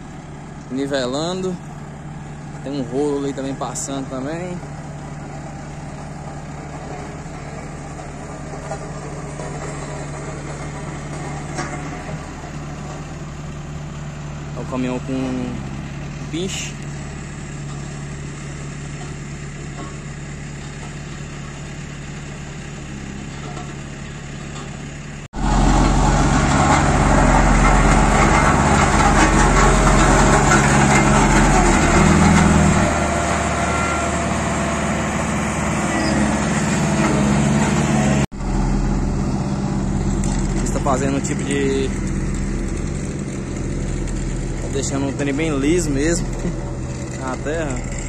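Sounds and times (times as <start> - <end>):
diesel engines running: 0.0 - 48.0
road roller engine deep rumble: 0.0 - 48.0.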